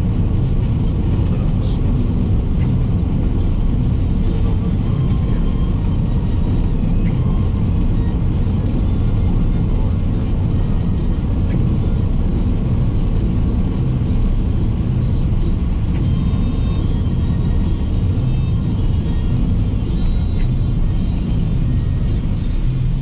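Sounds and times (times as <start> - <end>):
car cabin road rumble: 0.0 - 23.0
faint radio music: 0.0 - 23.0.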